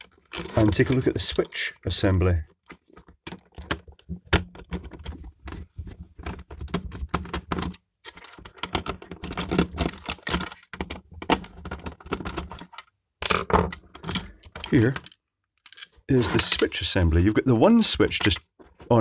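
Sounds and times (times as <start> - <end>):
plastic parts clicking and rattling: 0.0 - 1.7, 2.4 - 19.0.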